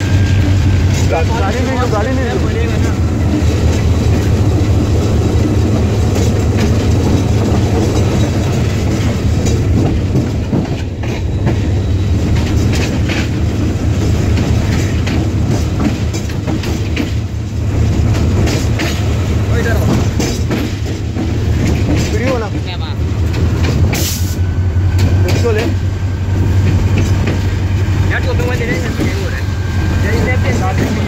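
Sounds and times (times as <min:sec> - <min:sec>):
locomotive engine drone: 0:00.0 - 0:31.0
wheels clicking over rail joints: 0:00.8 - 0:24.4, 0:25.0 - 0:29.4.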